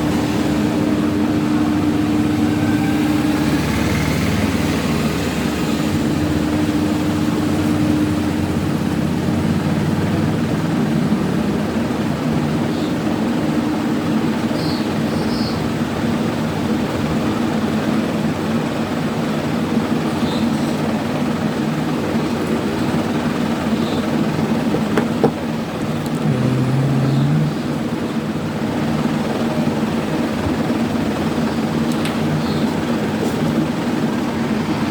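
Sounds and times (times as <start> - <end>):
mechanical drone with low hum: 0.0 - 34.9.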